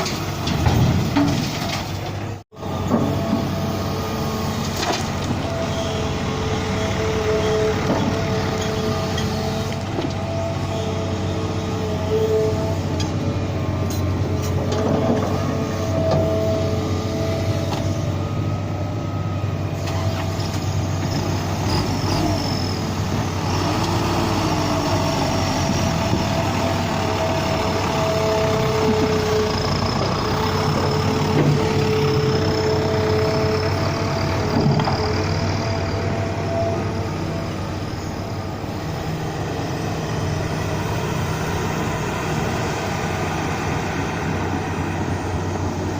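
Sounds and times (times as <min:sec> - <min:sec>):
road noise: 0:00.0 - 0:45.9
truck engine running: 0:00.0 - 0:45.9.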